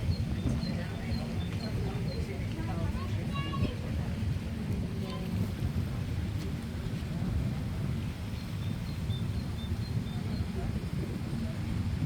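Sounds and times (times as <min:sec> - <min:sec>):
ship engine rumble: 0:00.0 - 0:12.0
wind buffeting microphone: 0:00.0 - 0:12.0
faint voices: 0:00.2 - 0:07.8, 0:09.9 - 0:12.0.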